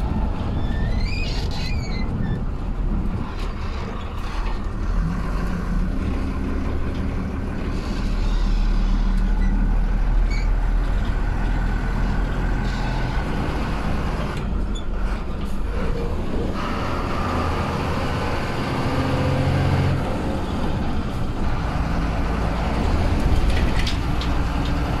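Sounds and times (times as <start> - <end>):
bus diesel engine running: 0.0 - 25.0
road rumble: 0.0 - 25.0.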